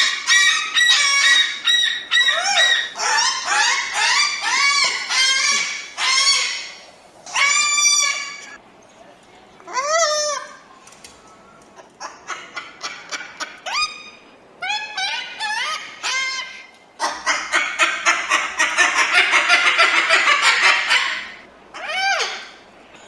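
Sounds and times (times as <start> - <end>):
cockatoo squawks: 0.0 - 8.6, 12.0 - 22.6.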